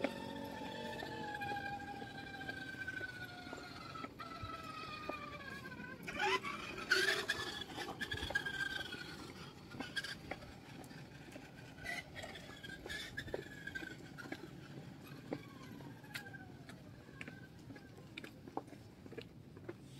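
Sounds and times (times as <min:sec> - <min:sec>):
toy car electric motor whining: 0:00.0 - 0:18.0.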